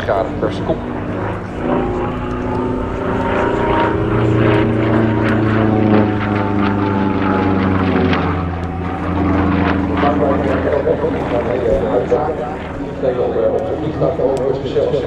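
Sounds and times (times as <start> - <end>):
propeller plane engine: 0.0 - 15.0.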